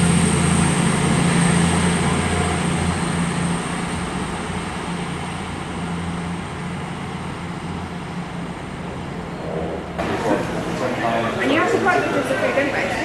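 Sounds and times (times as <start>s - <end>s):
diesel train engine hum: 0.0s - 13.0s.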